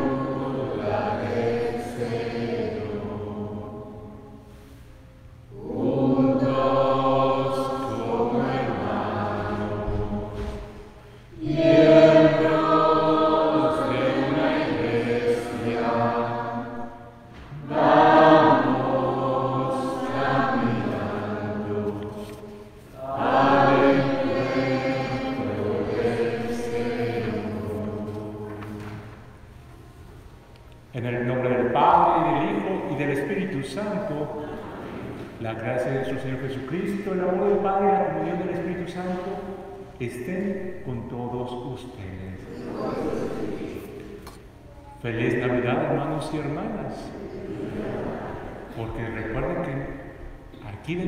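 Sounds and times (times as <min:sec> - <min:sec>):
choir singing a hymn: 0:00.0 - 0:51.0.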